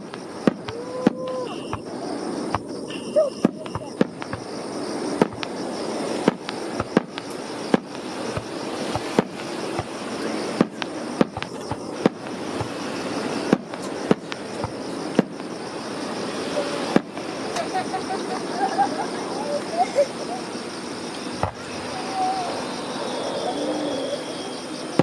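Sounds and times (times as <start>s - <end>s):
fireworks bursting: 0.0s - 25.0s
steady background noise: 0.0s - 25.0s.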